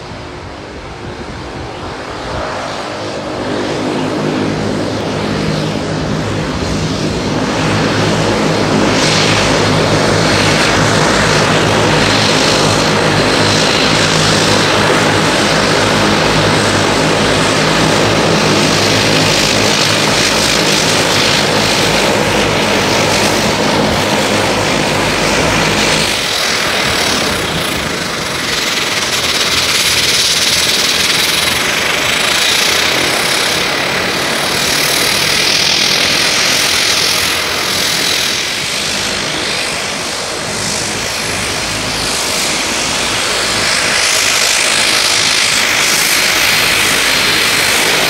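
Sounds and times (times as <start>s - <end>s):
turboprop airliner taxiing: 0.0s - 48.0s.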